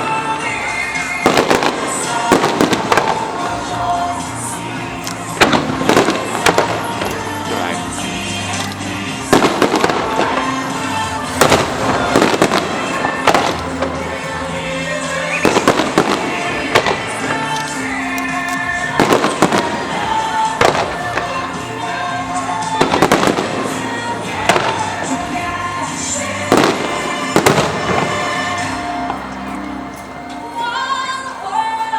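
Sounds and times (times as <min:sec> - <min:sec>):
fireworks bursting: 0:00.0 - 0:31.2
music playing: 0:00.0 - 0:31.9.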